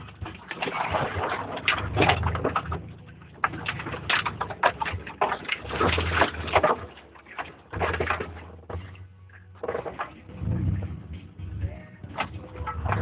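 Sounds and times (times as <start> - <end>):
knocks and rattles: 0.0 - 13.0
truck engine rumble: 0.0 - 13.0.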